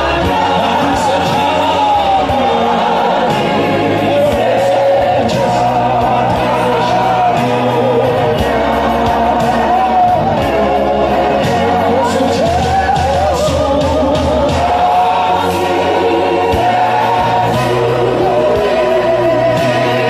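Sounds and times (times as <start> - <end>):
bass accompaniment: 0.0 - 20.0
man singing into microphone: 0.0 - 20.0
other voices singing: 0.0 - 20.0.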